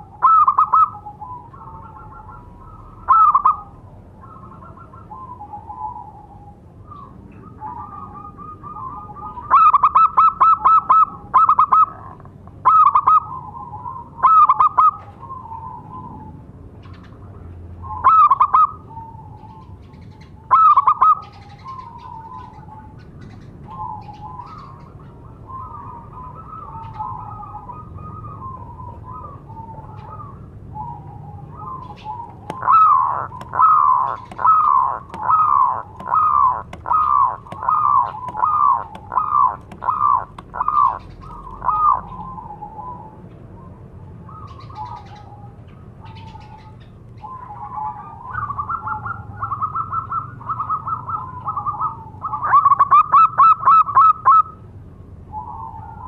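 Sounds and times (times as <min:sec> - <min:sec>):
dove cooing: 0:00.0 - 0:17.1, 0:17.8 - 0:54.6.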